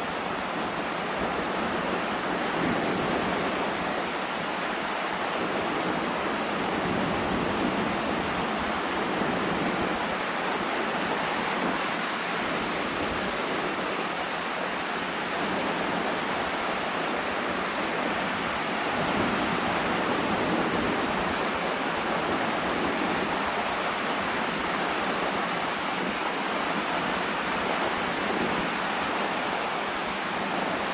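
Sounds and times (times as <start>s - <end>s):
lake waves surging onto beach: 0.0s - 30.9s
strong wind: 0.0s - 30.9s.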